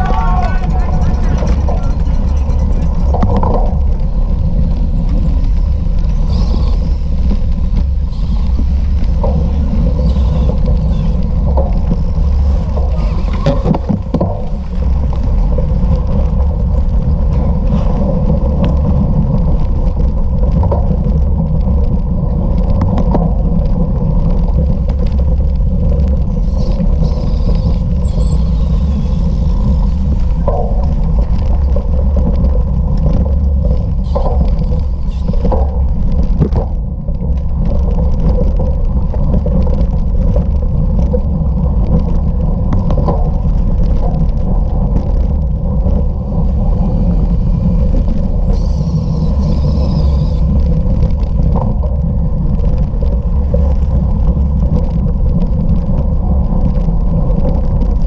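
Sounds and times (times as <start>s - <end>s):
bicycle tyre noise: 0.0s - 58.0s
wind rumble on microphone: 0.0s - 58.0s.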